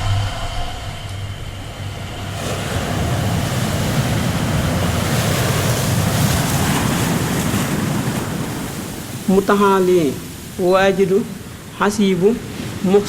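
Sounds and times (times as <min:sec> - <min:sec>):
sea surf rushing: 0:00.0 - 0:13.0.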